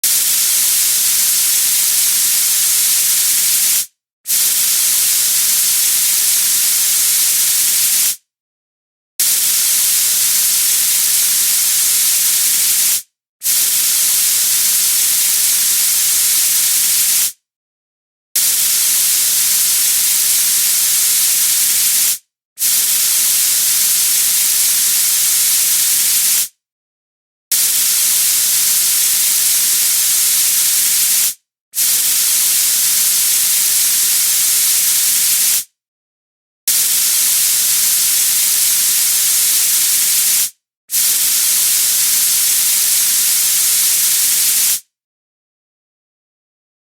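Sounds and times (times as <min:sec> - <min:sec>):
compressed air hissing from tank: 0:00.0 - 0:08.2, 0:09.2 - 0:17.4, 0:18.4 - 0:26.5, 0:27.5 - 0:35.6, 0:36.7 - 0:44.8.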